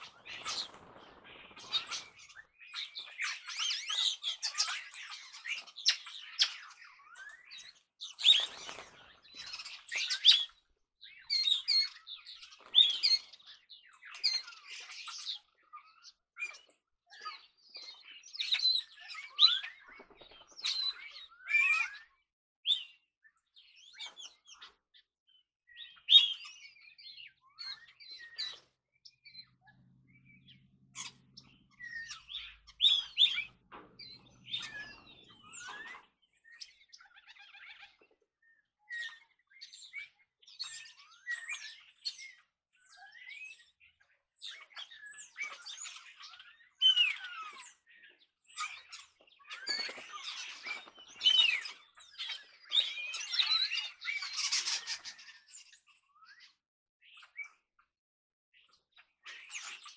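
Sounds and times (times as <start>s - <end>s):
starlings chirping and whistling: 0.0s - 57.6s, 58.7s - 59.9s.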